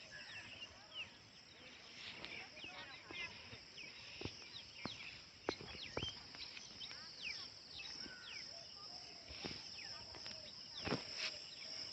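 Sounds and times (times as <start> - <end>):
insects trilling: 0.0 - 11.9.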